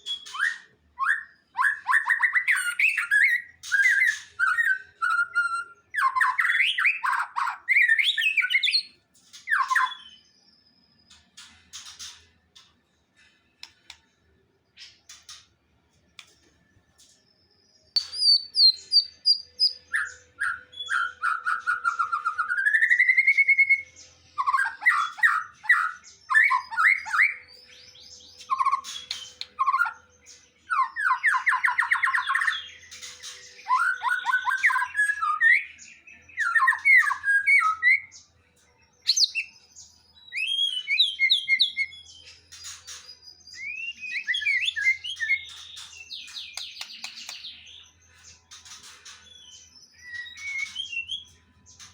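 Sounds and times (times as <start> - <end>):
songbird singing whistles and trills: 0.0 - 12.2, 16.2 - 51.9.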